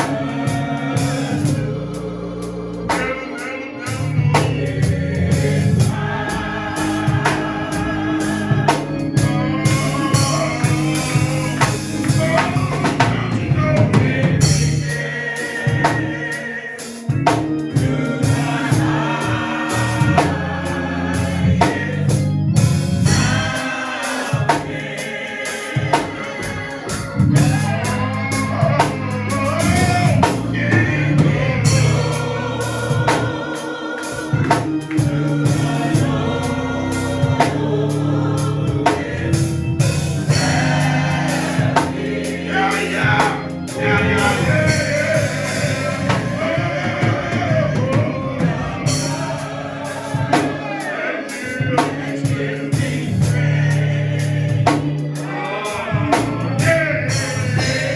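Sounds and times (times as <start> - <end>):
bass line: 0.0 - 15.2, 17.2 - 23.6, 26.5 - 33.5, 34.3 - 50.6, 52.3 - 55.1, 56.0 - 57.9
choir singing gospel: 0.0 - 57.9
drum kit: 0.0 - 57.9.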